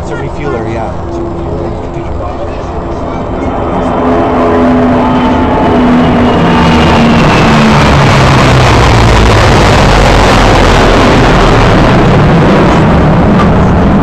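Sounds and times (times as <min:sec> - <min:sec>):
low aircraft formation roaring overhead: 0:00.0 - 0:14.0
low engine drone: 0:00.0 - 0:14.0.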